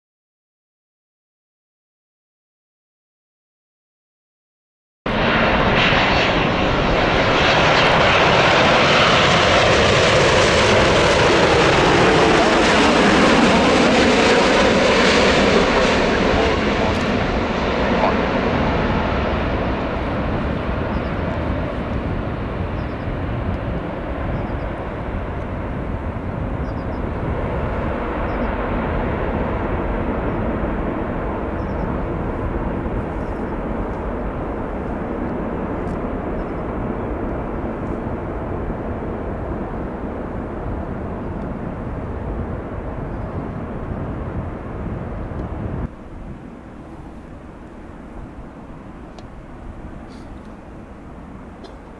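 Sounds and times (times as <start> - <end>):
jet engines rushing: 5.1 - 51.9.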